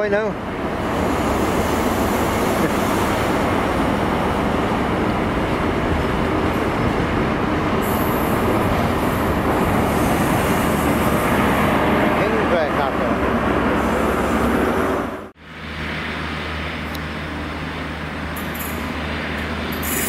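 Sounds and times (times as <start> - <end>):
train rumbling over rails: 0.0 - 20.0.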